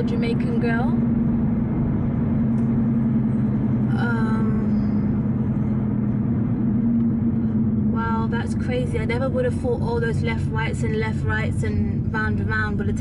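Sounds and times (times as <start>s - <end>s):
car engine droning: 0.0s - 13.0s
tyre road noise: 0.0s - 13.0s.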